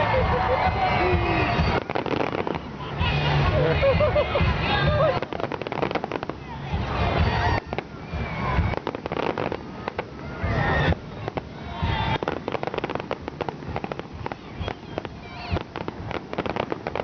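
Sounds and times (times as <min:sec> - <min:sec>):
fireworks crackling and popping: 0:00.0 - 0:17.0
fireworks booms: 0:00.2 - 0:03.5, 0:04.4 - 0:17.0.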